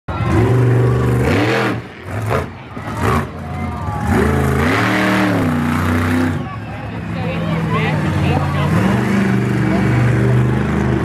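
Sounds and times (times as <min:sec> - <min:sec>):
truck engine revving: 0:00.1 - 0:11.0.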